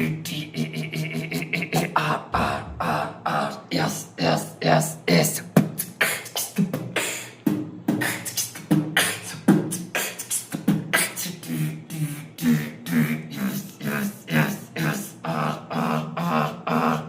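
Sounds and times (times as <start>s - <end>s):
person beatboxing: 0.0s - 17.0s.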